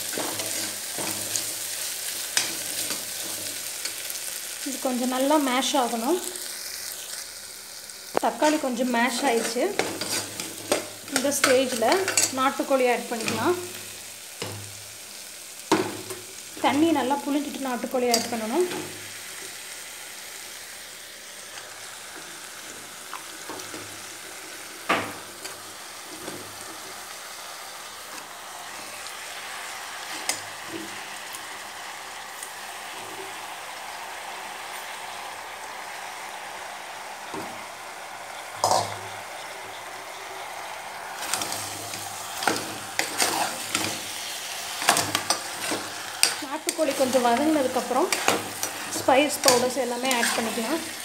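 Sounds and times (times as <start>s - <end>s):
chicken sizzling in oil: 0.0s - 51.0s.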